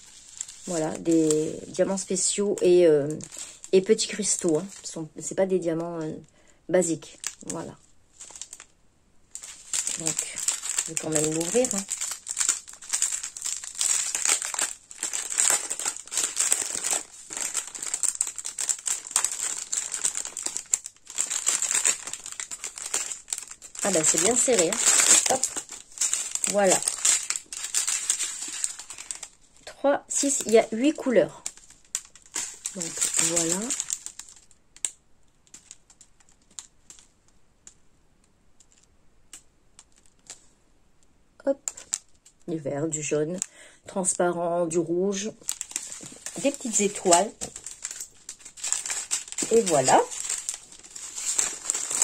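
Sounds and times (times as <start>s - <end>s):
plastic bag crinkling: 0.0s - 37.8s, 38.6s - 40.5s, 41.5s - 42.5s, 44.8s - 52.0s.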